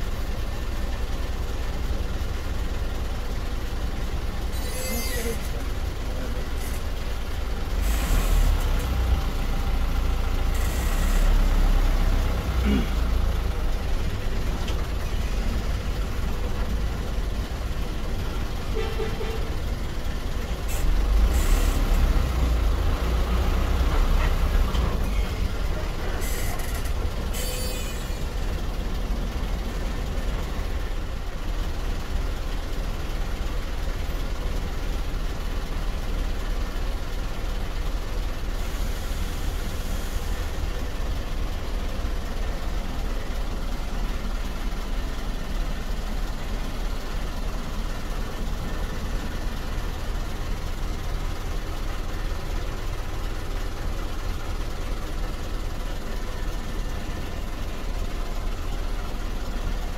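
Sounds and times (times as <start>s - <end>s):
motor vehicles idling: 0.0s - 59.9s.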